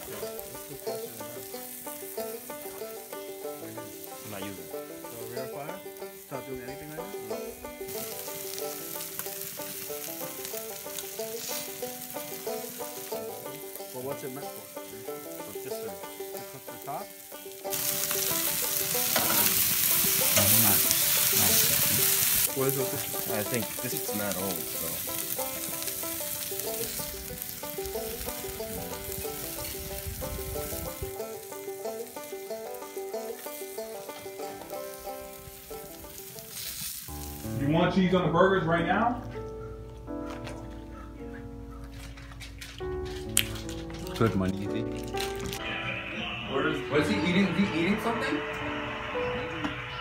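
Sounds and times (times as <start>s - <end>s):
background music: 0.0s - 36.2s, 37.1s - 50.0s
meat sizzling on a grill: 0.0s - 38.1s, 42.0s - 46.2s.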